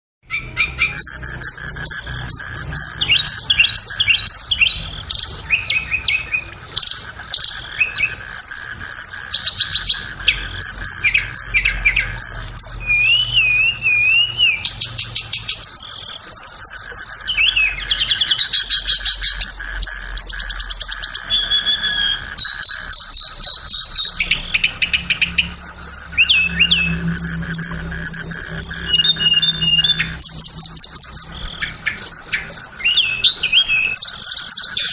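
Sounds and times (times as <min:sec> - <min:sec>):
bird song with chirps and trills: 0:00.2 - 0:34.9.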